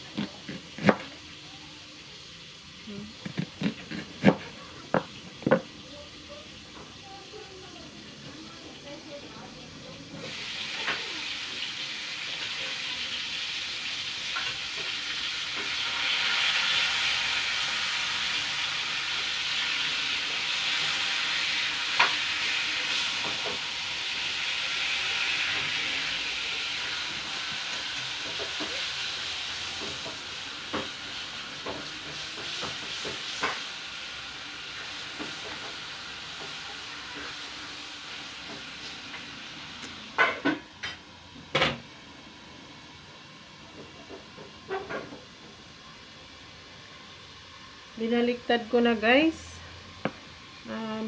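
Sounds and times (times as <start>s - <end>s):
pork chops sizzling in oil: 0.0s - 51.0s.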